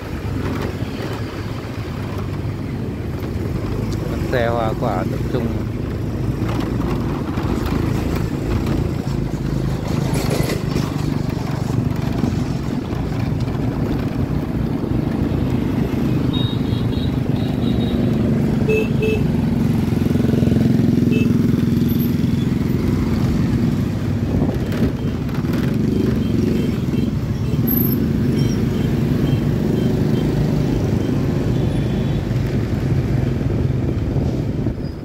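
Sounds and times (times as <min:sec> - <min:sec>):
road and wind noise: 0:00.0 - 0:35.0.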